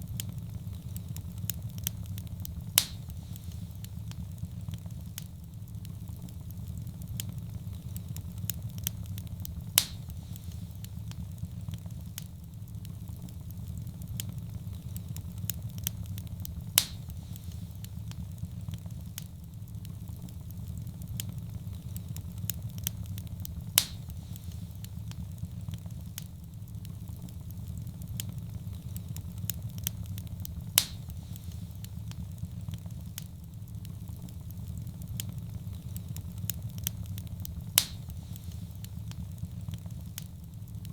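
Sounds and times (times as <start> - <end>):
sharp pops of fire: 0.0 - 40.9
wood fire burning: 0.0 - 40.9.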